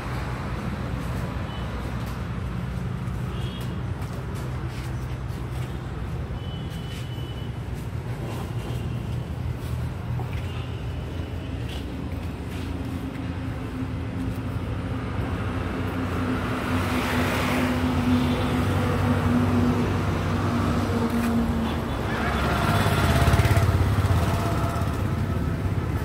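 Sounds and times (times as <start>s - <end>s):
vehicles passing by: 0.0s - 26.0s.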